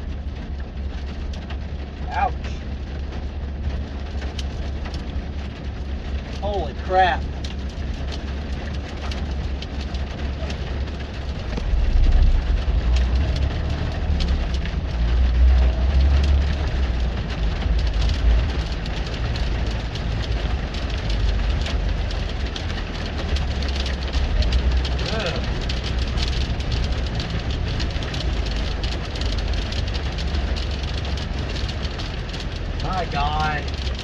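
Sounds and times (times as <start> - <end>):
hail striking truck: 0.0 - 34.0.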